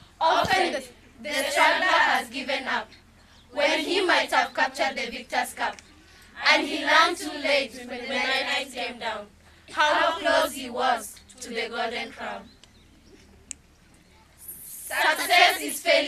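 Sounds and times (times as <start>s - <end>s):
girls chanting in unison: 0.2s - 12.5s, 14.4s - 16.0s.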